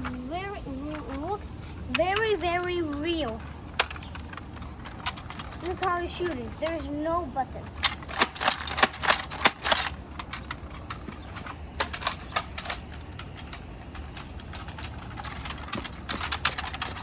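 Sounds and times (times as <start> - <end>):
plastic toy gun clicks and knocks: 1.9 - 6.8, 7.6 - 17.0.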